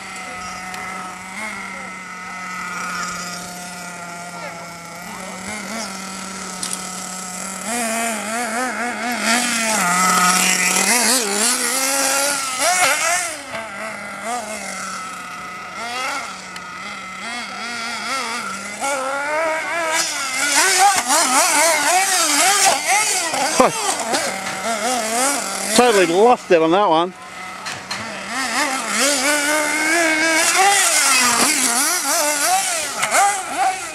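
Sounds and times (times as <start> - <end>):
model car engine revving: 0.0 - 33.9.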